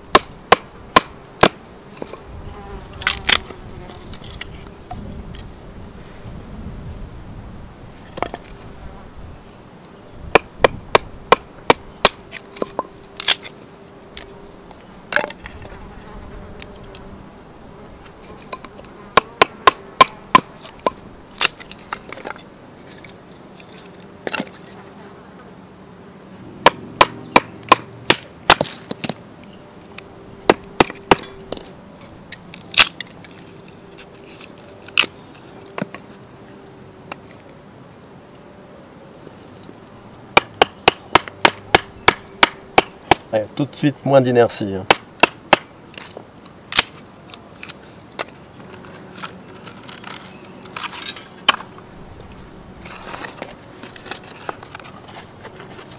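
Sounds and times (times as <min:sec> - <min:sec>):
fly buzzing: 0:00.0 - 0:06.6, 0:07.6 - 0:28.1, 0:28.8 - 0:43.3, 0:48.3 - 0:55.9.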